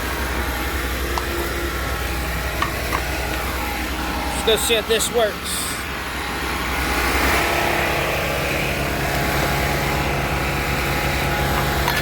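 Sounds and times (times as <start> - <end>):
portable generator engine running: 0.0 - 12.0.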